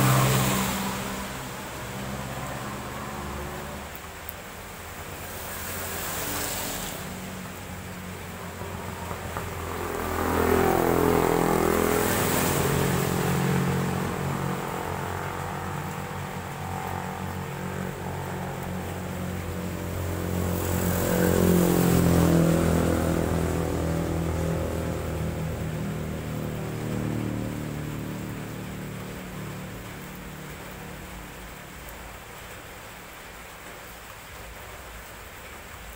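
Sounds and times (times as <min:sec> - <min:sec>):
motorcycles passing: 0:00.0 - 0:34.4
tyre hiss on wet asphalt: 0:00.0 - 0:35.9.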